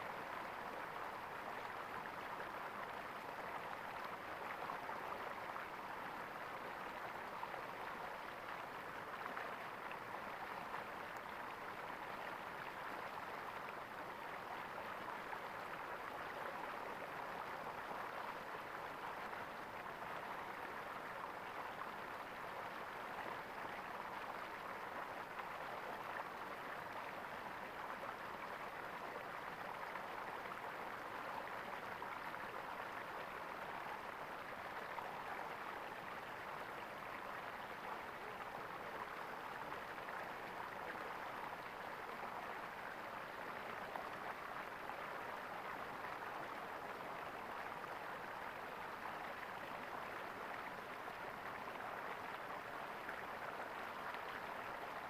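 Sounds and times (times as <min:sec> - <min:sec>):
water gurgling in a stream: 0:00.1 - 0:55.0.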